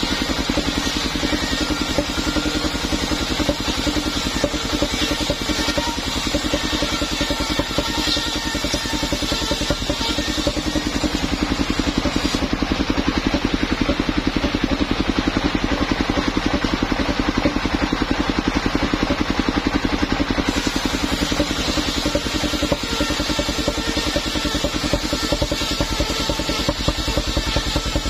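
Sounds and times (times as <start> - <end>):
saw blade cutting log: 0.0 - 28.0
sawmill engine chugging: 0.0 - 28.0.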